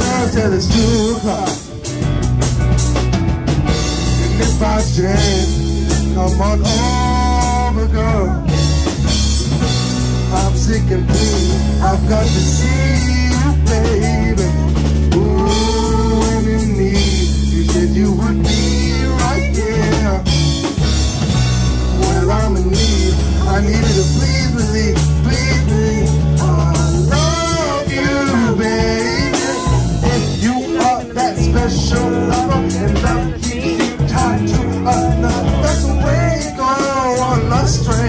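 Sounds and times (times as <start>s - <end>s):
live band playing: 0.0s - 38.0s.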